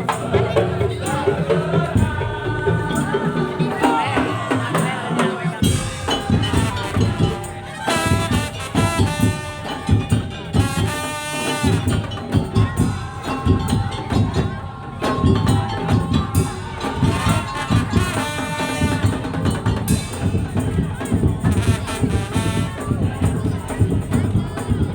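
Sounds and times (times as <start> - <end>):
drum and bamboo percussion: 0.0 - 24.9.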